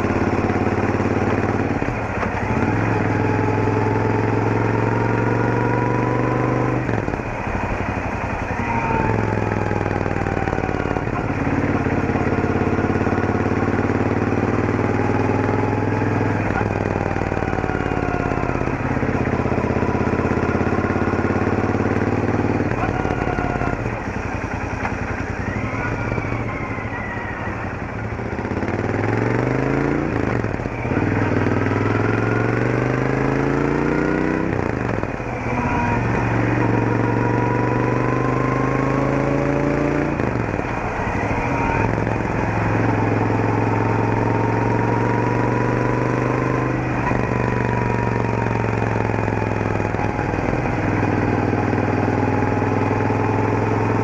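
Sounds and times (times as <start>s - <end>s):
motorcycle engine pulling away: 0.0s - 54.0s
transmission gear whine: 0.0s - 54.0s.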